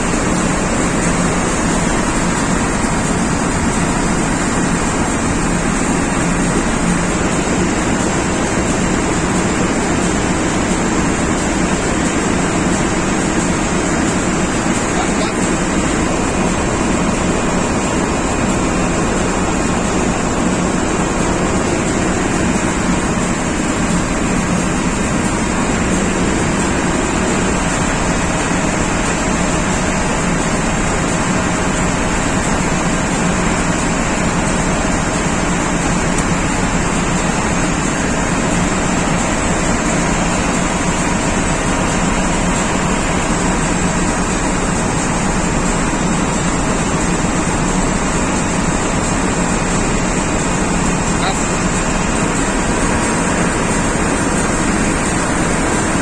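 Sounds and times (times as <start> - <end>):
engine room machinery din: 0.0 - 56.0.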